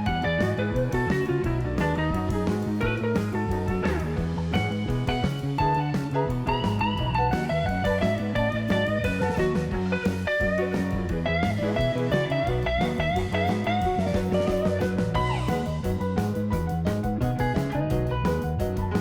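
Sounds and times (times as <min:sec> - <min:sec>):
bass: 0:00.0 - 0:19.0
blues guitar lead line: 0:00.0 - 0:19.0
drums: 0:00.0 - 0:19.0.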